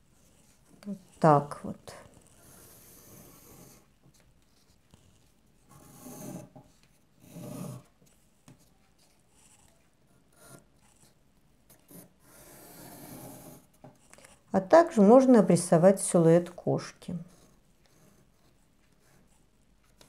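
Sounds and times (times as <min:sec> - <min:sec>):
pencil scratching on paper: 0:00.0 - 0:16.6, 0:17.2 - 0:20.0.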